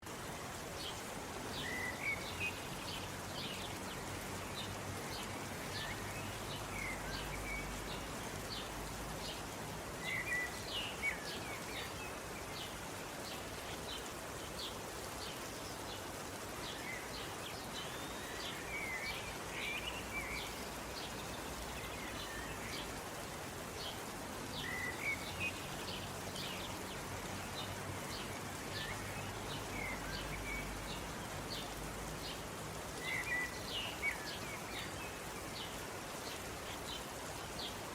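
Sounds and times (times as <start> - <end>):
light rain falling: 0.0 - 37.9.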